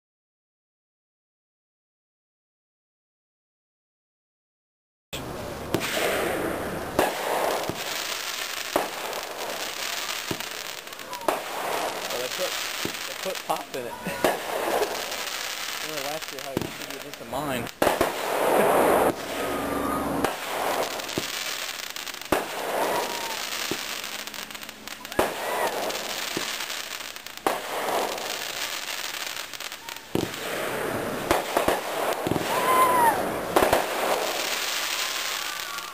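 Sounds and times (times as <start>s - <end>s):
crackle of bursting stars: 5.2s - 35.9s
firework bangs: 5.2s - 35.9s.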